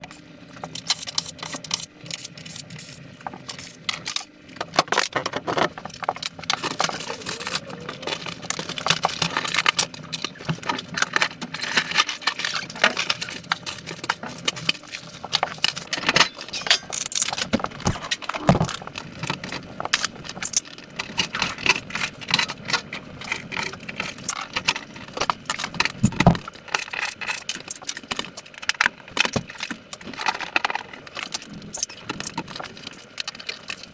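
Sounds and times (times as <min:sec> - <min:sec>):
tools and metal parts clinking: 0:00.6 - 0:33.9.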